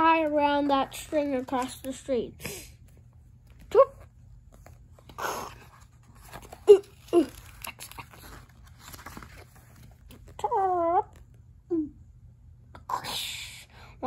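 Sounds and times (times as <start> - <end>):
book pages flipping: 0.0 - 11.4.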